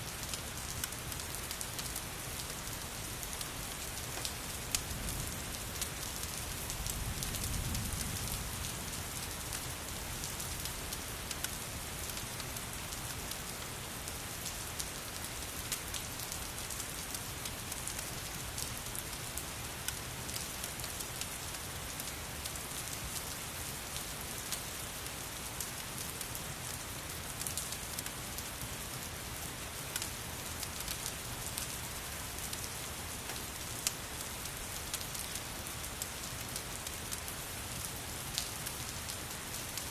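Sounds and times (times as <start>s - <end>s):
steady rain: 0.0s - 39.9s
wood fire crackling: 0.1s - 39.9s.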